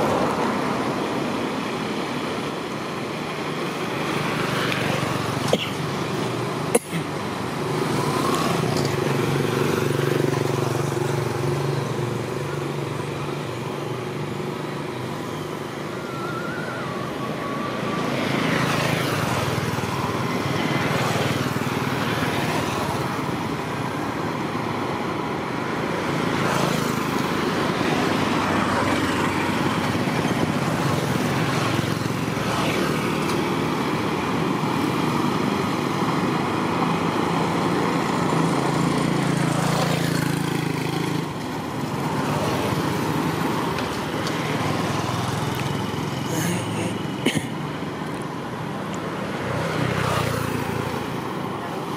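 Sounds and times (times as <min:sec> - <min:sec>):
motorbikes and scooters passing: 0:00.0 - 0:51.9
traffic hum: 0:00.0 - 0:51.9.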